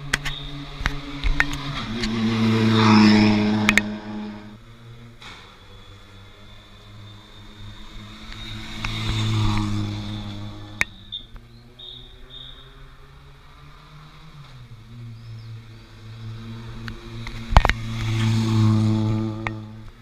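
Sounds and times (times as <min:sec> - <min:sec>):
rally car engine passing: 0:00.0 - 0:20.0.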